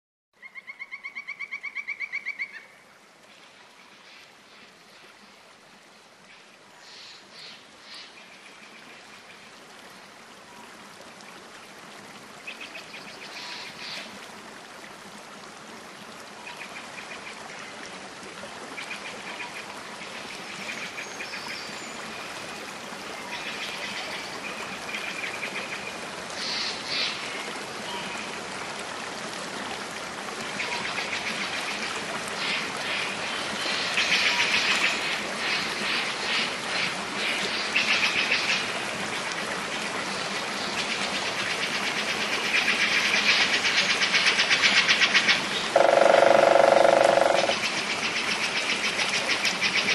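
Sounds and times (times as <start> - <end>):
running water: 1.5 - 49.9.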